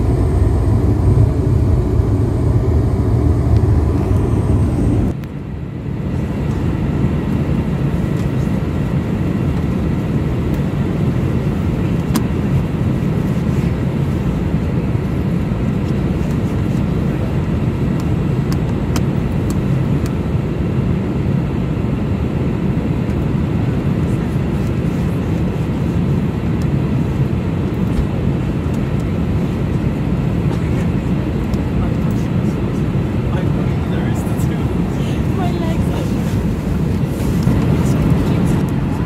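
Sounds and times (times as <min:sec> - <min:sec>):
airplane cabin engine noise: 0:00.0 - 0:39.0.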